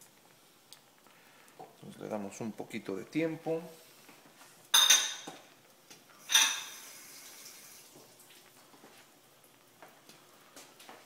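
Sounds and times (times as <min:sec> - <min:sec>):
omelette sizzling in a pan: 0:00.0 - 0:11.0.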